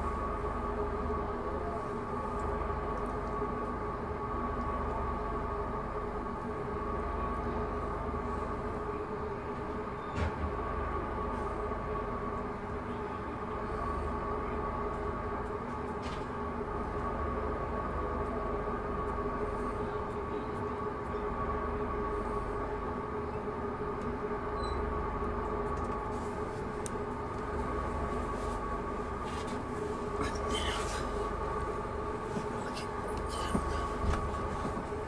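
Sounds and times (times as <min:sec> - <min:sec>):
train hum and rumble: 0:00.0 - 0:35.0.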